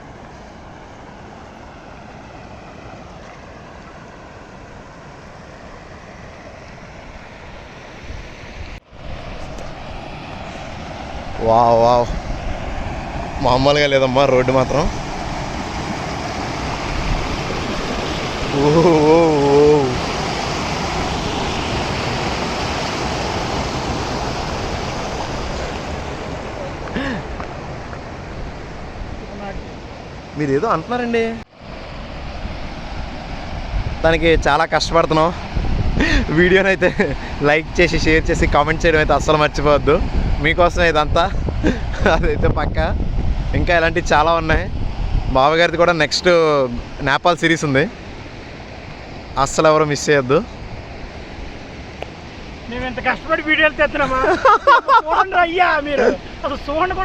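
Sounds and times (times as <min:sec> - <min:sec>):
flowing water rushing: 0:00.0 - 0:57.0
vehicle road and wind noise: 0:00.0 - 0:57.0.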